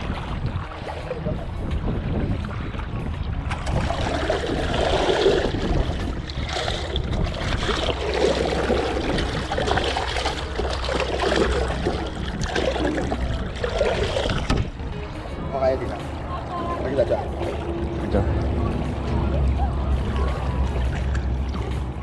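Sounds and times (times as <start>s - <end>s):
river water rushing and splashing: 0.0s - 22.0s.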